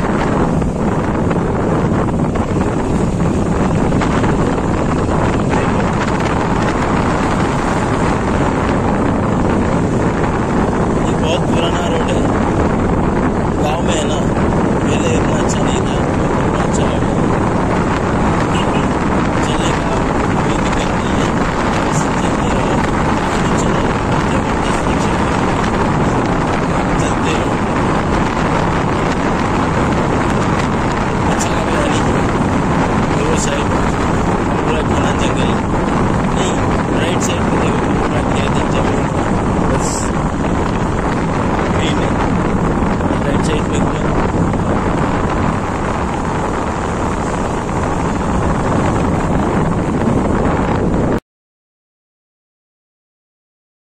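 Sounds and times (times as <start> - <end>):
tyre noise on road: 0.0 - 51.2
wind on microphone: 0.0 - 51.2.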